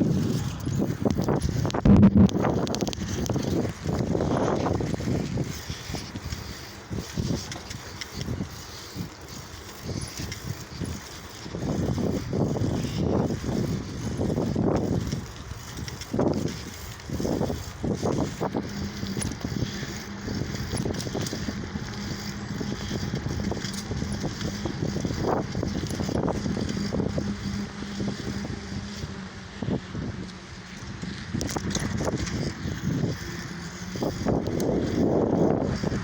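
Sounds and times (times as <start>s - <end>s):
bicycle riding noise: 0.0s - 36.0s
steady low hum: 0.0s - 36.0s
wind gusting on microphone: 0.0s - 36.0s.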